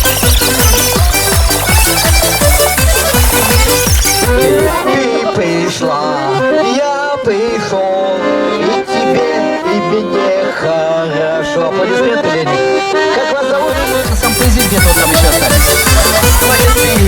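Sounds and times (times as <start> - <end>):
accordion melody over chords: 0.0 - 17.0.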